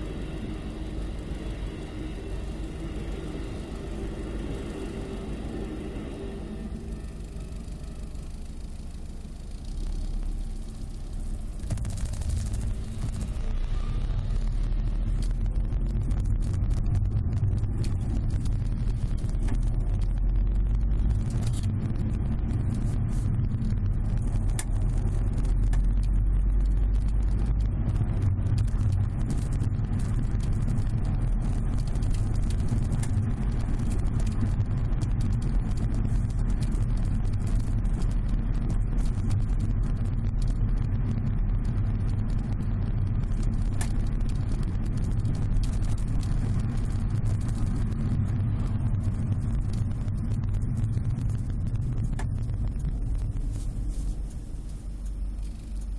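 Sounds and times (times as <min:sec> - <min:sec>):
sharp crackling clicks: 0:07.0 - 0:55.9.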